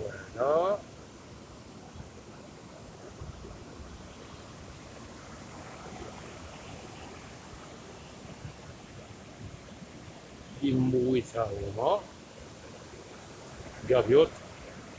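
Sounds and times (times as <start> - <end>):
sea surf: 0.0 - 14.9.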